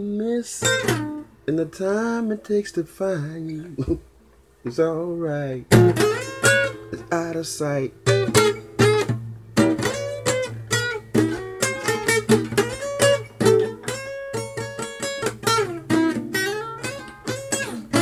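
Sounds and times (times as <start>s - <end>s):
acoustic guitar strumming: 0.5s - 3.7s, 4.6s - 18.0s.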